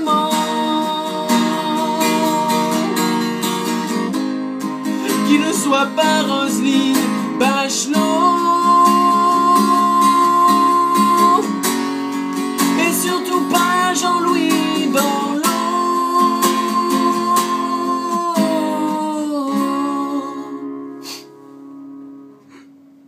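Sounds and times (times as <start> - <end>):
man singing: 0.0 - 3.7, 5.0 - 11.7, 12.6 - 20.7
acoustic guitar strumming: 0.0 - 23.0.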